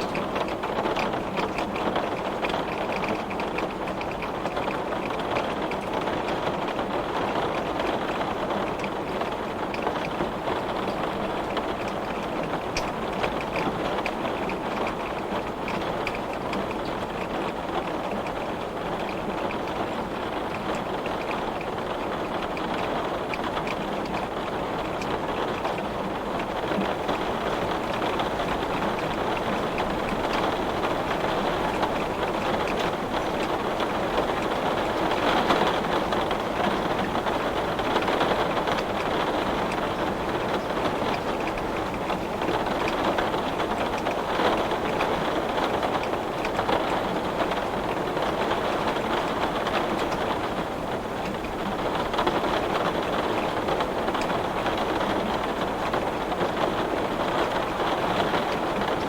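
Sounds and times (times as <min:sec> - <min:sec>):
heavy rain on glass: 0:00.0 - 0:59.0.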